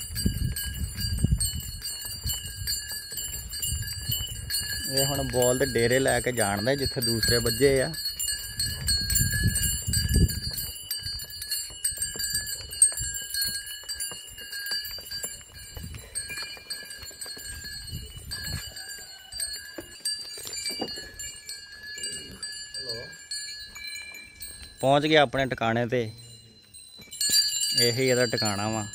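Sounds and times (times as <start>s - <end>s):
bull bells ringing and jingling: 0.0s - 28.9s.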